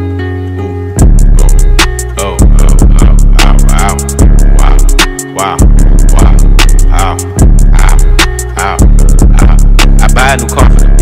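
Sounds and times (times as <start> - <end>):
hip hop beat with deep bass: 0.0 - 11.0
quick hi-hats: 1.0 - 11.0.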